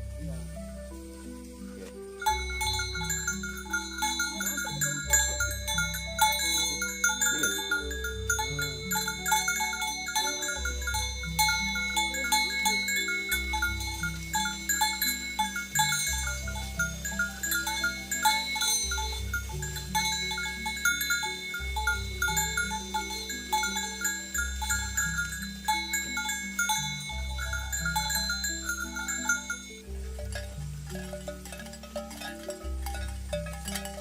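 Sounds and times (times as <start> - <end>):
chime-like plucked figure: 2.2 - 31.7.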